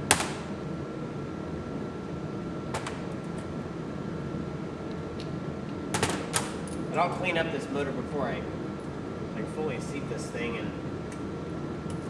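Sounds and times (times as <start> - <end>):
fan hum: 0.0 - 12.0.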